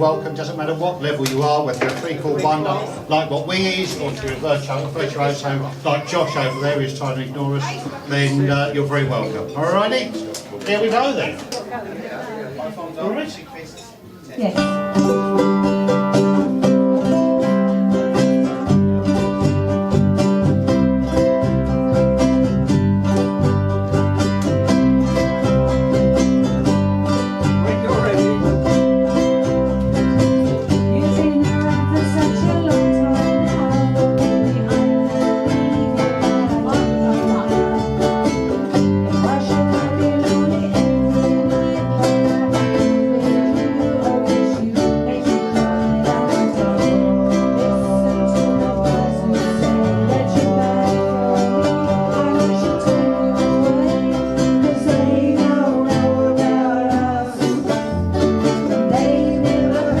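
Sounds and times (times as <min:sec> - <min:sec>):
ukuleles strumming: 0:00.0 - 0:11.8, 0:13.0 - 1:00.0.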